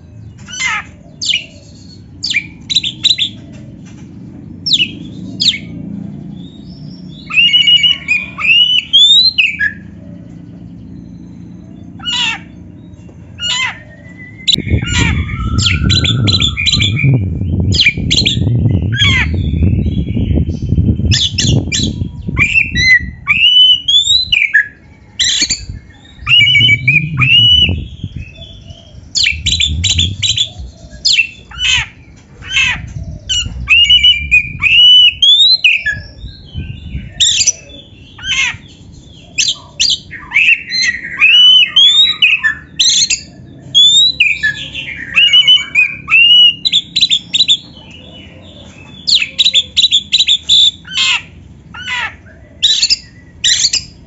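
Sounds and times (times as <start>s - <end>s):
low rumbling noise: 0.0s - 54.0s
magpie-robin singing: 0.2s - 54.0s.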